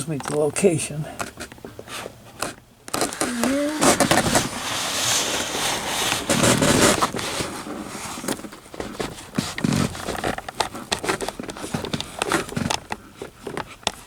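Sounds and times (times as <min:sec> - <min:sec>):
handling rustling and scraping: 0:00.0 - 0:14.0.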